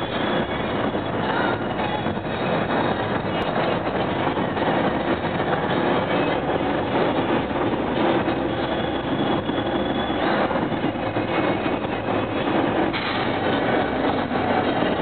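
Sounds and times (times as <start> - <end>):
air-conditioning fan blowing: 0.0 - 15.0
road and engine noise: 0.0 - 15.0.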